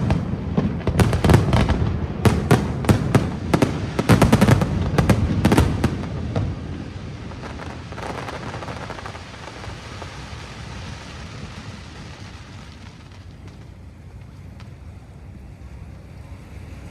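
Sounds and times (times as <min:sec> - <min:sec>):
firework pops: 0:00.0 - 0:15.0
firework bursts: 0:00.0 - 0:16.9
fireworks crackling: 0:00.0 - 0:16.9.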